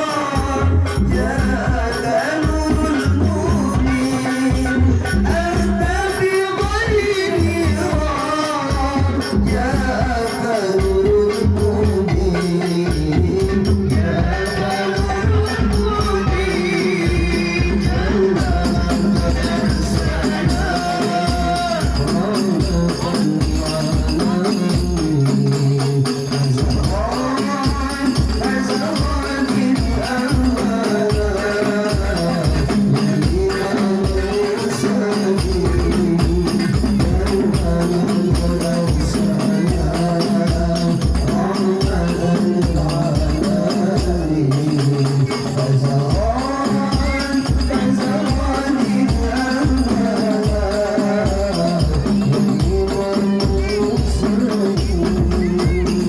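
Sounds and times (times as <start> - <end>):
frame drums beating: 0.0 - 56.0
man singing melismas: 0.0 - 56.0.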